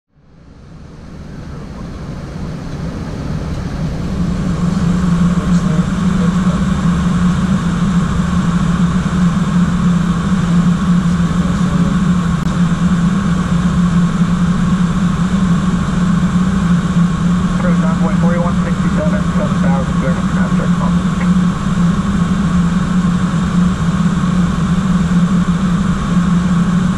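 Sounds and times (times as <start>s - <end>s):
low aircraft drone: 0.1s - 26.9s.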